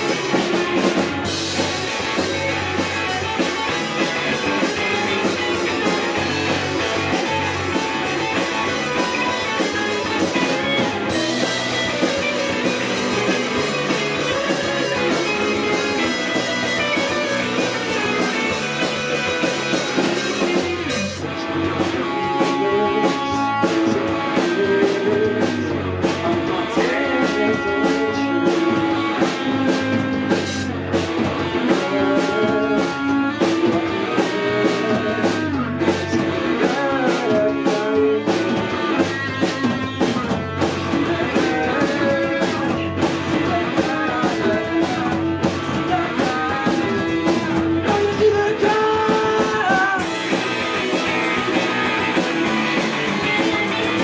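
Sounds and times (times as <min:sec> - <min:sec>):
drum hits: 0:00.0 - 0:54.0
live rock band playing: 0:00.0 - 0:54.0.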